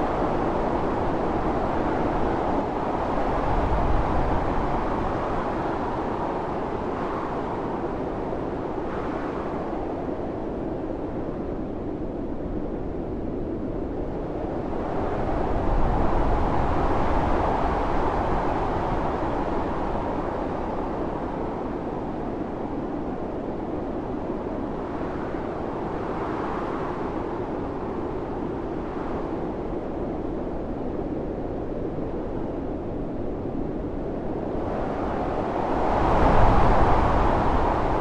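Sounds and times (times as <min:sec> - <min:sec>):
howling storm wind gusts: 0:00.0 - 0:38.0.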